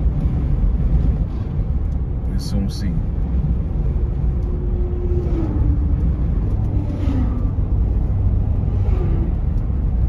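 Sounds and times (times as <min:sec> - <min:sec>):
road rumble in car cabin: 0:00.0 - 0:10.0.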